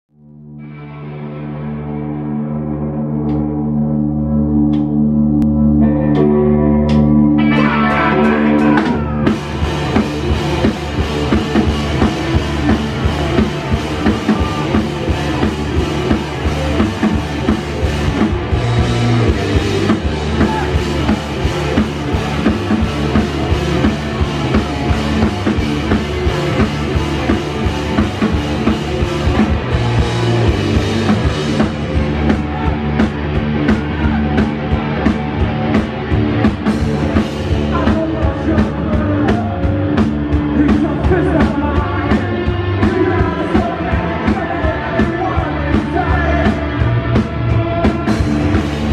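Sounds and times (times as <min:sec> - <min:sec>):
rock band playing: 0:00.6 - 0:48.9.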